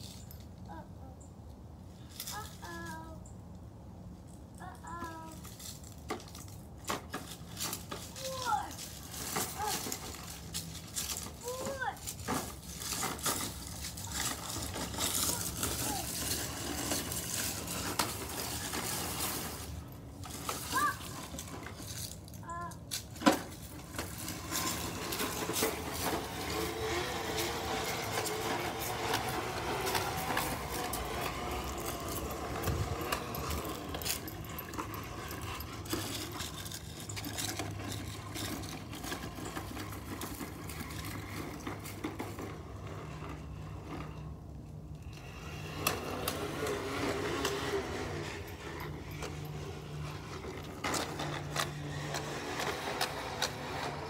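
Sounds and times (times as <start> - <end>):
toy lawnmower rattling and clicking: 0.0 - 1.2, 2.0 - 3.3, 4.1 - 54.0
scraping over ground: 4.3 - 54.0.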